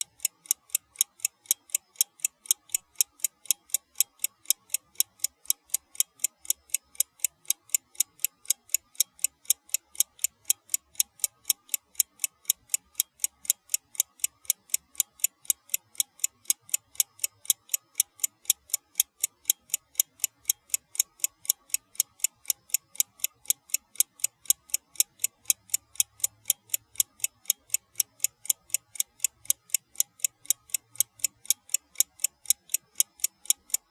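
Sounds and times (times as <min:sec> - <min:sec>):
alarm clock ticking: 0:00.0 - 0:33.9.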